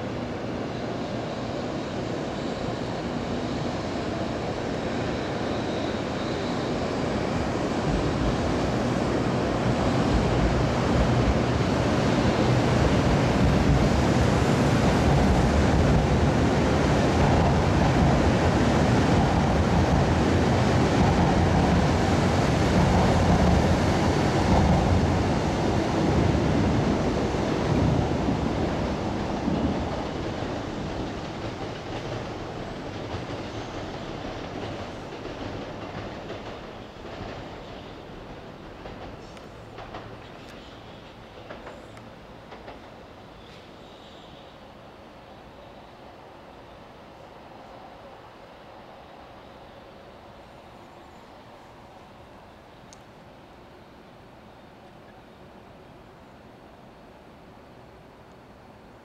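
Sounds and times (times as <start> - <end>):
train rushing rumble: 0.0 - 52.8.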